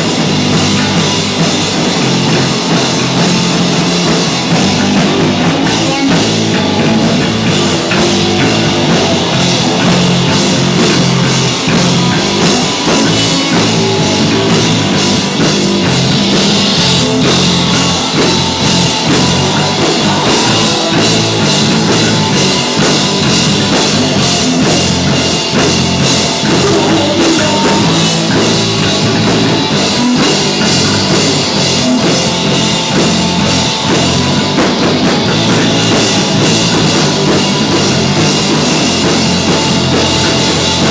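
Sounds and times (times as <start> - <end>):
punk rock band playing: 0.0 - 40.9.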